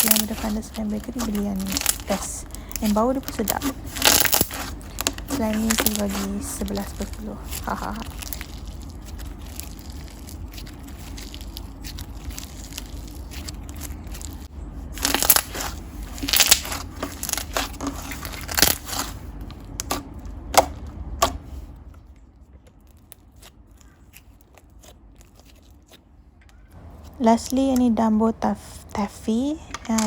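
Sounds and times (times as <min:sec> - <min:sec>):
hands squishing slime: 0:00.0 - 0:27.9.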